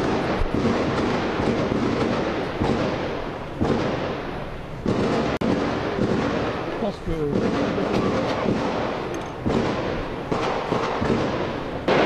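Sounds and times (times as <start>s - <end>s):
rapid gunfire bursts: 0.0s - 4.2s, 4.8s - 12.0s.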